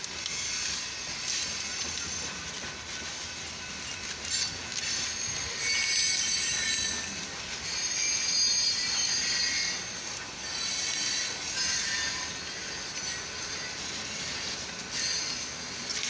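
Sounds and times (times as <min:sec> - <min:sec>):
rumble of rail cars: 0:00.0 - 0:16.0
train wheels squealing: 0:00.1 - 0:16.0.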